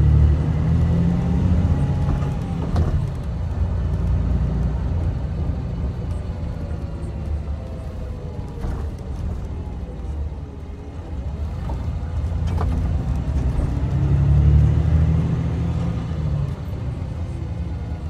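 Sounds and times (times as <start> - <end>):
road noise: 0.0 - 18.0
coach engine rumble: 0.9 - 18.0.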